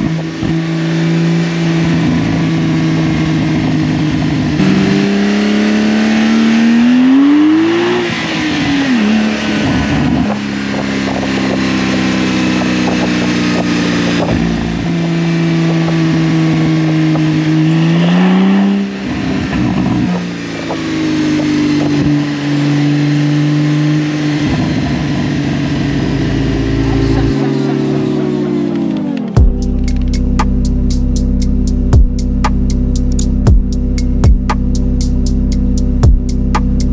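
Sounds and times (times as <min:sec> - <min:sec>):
sports car engine revving: 0:00.0 - 0:36.9.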